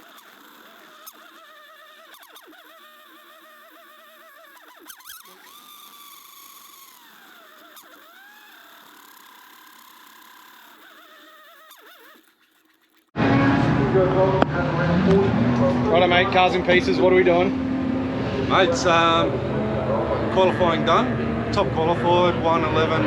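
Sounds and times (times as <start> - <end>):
distant racing car engine: 0.0 - 23.0.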